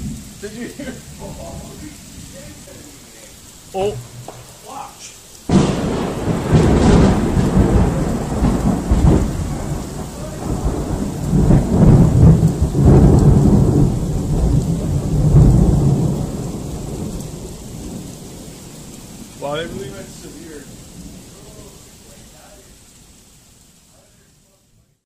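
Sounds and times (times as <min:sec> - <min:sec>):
thunderclap rumbling: 0:00.0 - 0:22.7
falling rain: 0:00.0 - 0:25.0.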